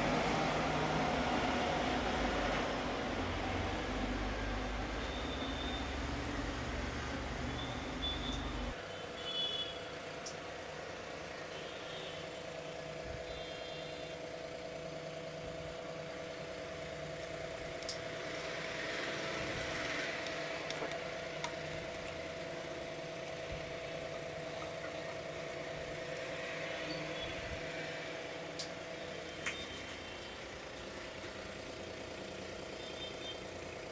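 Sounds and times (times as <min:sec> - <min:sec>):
steady mechanical hum: 0:00.0 - 0:33.9.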